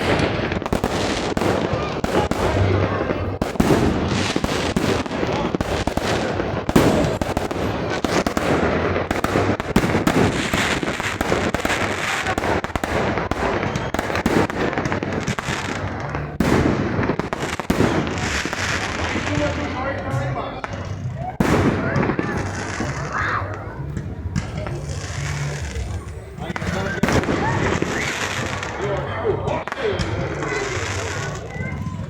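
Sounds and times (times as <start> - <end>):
fireworks crackling bangs: 0.0 - 32.0.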